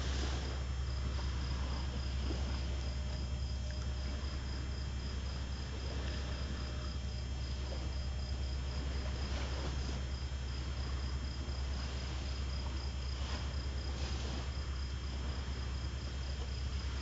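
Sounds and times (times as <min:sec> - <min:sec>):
constant low hum: 0:00.0 - 0:17.0
crickets chirping: 0:00.0 - 0:17.0.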